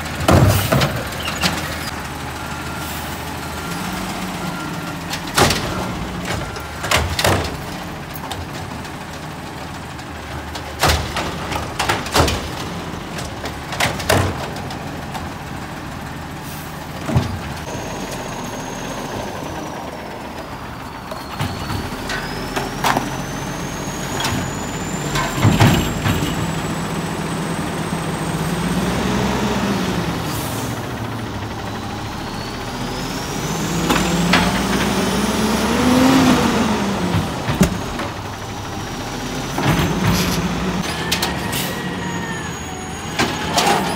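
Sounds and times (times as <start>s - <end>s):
trash cart banging: 0.0s - 2.1s, 3.9s - 31.4s, 33.4s - 43.9s
diesel engine revving: 0.0s - 43.9s.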